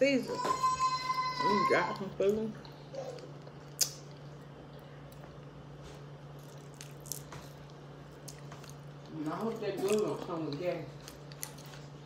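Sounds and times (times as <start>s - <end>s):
low steady hum: 0.0s - 12.0s
chewing: 1.9s - 12.0s.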